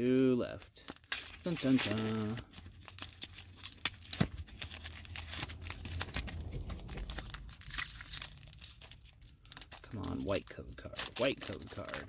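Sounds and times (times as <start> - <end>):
foil wrapper crinkling and tearing: 0.5 - 12.0.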